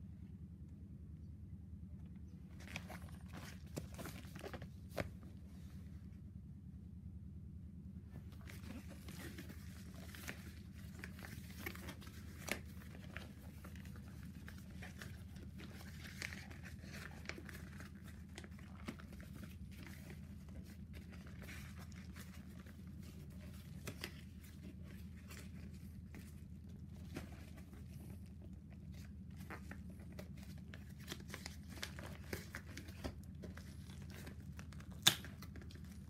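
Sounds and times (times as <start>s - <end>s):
steady low hum: 0.0s - 36.0s
padded envelope crinkling and tearing: 2.5s - 5.2s, 8.3s - 36.0s.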